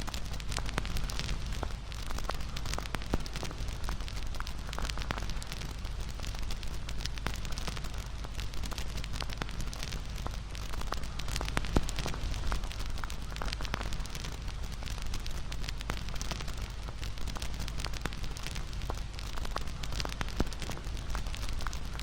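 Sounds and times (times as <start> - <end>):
low rumble of flames: 0.0 - 22.0
campfire pops and snaps: 0.1 - 22.0.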